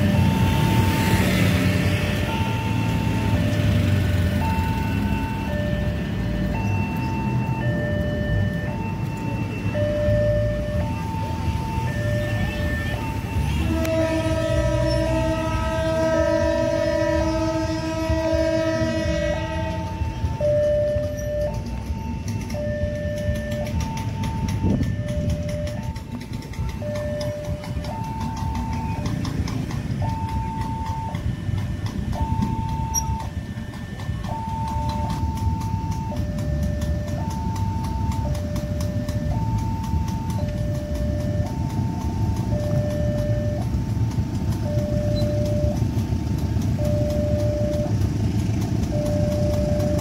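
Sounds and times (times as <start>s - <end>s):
level crossing two-tone alarm: 0.0s - 50.0s
low rumble of train: 0.0s - 50.0s.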